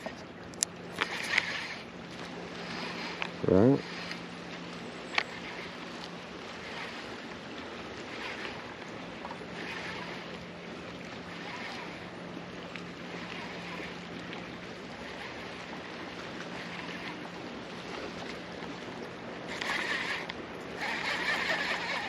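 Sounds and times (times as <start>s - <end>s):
boat motor humming: 0.0s - 22.0s
water noise: 0.0s - 22.0s.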